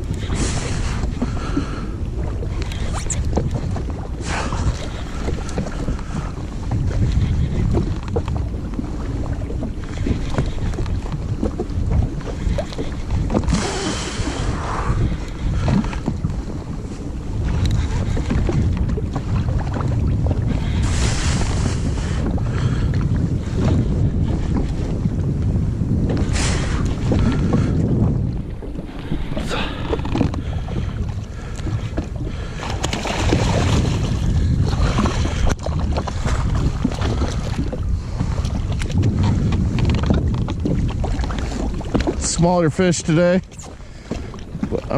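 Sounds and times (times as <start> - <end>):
water sloshing around hull: 0.0 - 44.9
wind buffeting microphone: 0.0 - 44.9.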